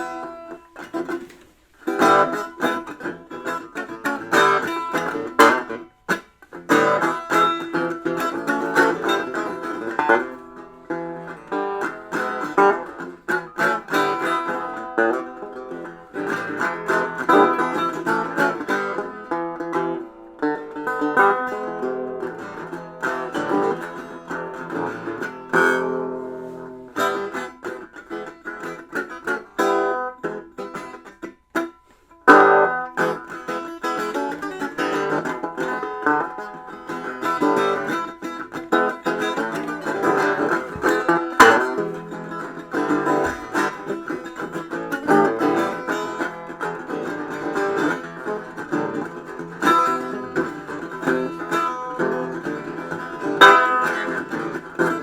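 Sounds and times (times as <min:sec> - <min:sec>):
plucked string instrument music: 0:00.0 - 0:55.0.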